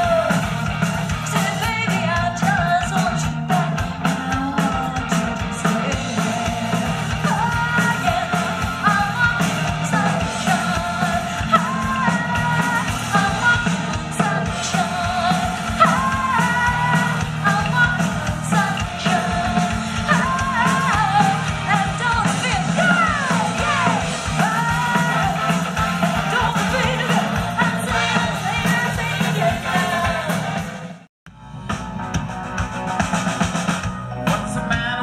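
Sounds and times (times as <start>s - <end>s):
person singing lead vocals: 0.0s - 30.8s, 34.1s - 35.0s
bass guitar: 0.0s - 35.0s
drum kit: 0.0s - 35.0s
electric guitars: 0.0s - 35.0s
keyboard: 0.0s - 35.0s.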